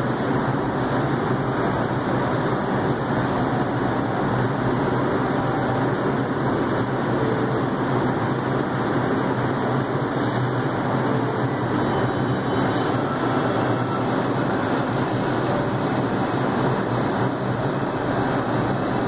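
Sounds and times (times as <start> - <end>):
subway train equipment humming: 0.0 - 19.0.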